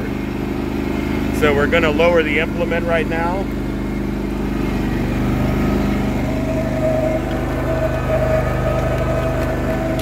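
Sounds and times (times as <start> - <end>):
garden tractor engine running: 0.0 - 10.0
steady whine: 0.0 - 10.0.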